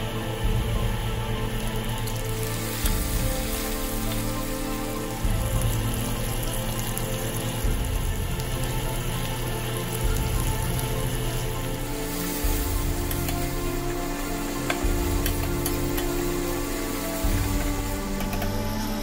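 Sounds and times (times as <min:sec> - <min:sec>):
onions sizzling in hot oil: 0:00.0 - 0:19.0
soft background music with chords: 0:00.0 - 0:19.0.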